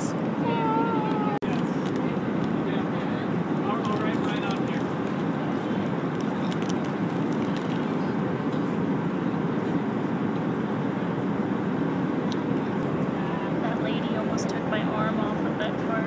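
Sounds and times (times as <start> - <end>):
airliner cabin noise: 0.0 - 16.0.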